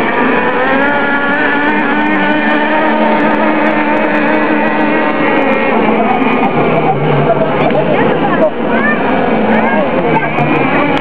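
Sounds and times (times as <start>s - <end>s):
model boat engines whining: 0.0s - 11.0s.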